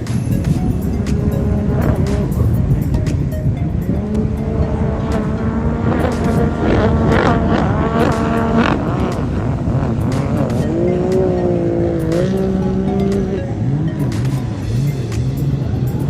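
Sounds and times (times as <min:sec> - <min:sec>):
powerboat engines running hard: 0:00.0 - 0:16.0.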